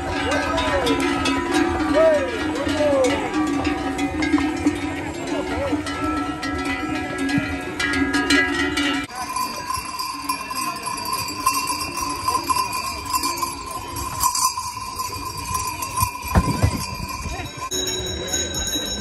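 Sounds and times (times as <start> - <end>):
livestock bells clanking: 0.0 - 19.0
steady high ringing tone: 0.0 - 19.0.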